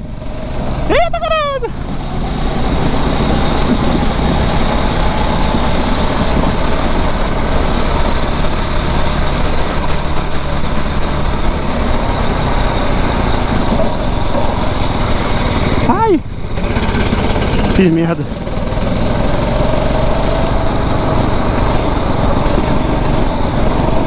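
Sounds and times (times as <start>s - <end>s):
kart engine running: 0.0s - 24.0s
steady rushing noise: 0.0s - 24.0s.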